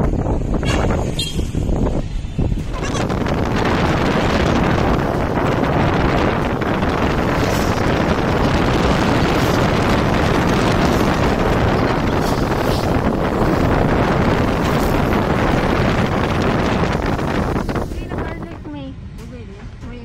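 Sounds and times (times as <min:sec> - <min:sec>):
car road noise: 0:00.0 - 0:20.0
wind buffeting microphone: 0:00.0 - 0:20.0.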